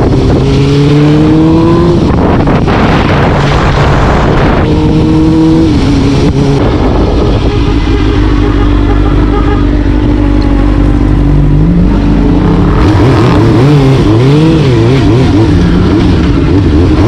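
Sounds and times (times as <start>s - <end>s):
loud rushing noise: 0.0s - 17.0s
vehicle engine accelerating: 0.0s - 17.0s.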